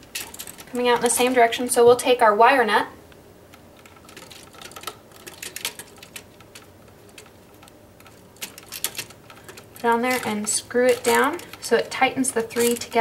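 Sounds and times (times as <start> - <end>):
clicks and scrapes of wires: 0.0 - 2.1, 3.5 - 13.0.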